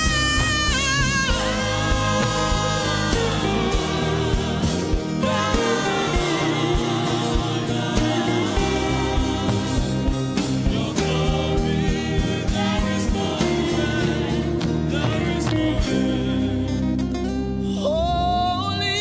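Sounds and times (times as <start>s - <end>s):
steady low beat: 0.0s - 16.6s
sustained chords: 0.0s - 17.6s
wordless singing: 0.8s - 19.0s.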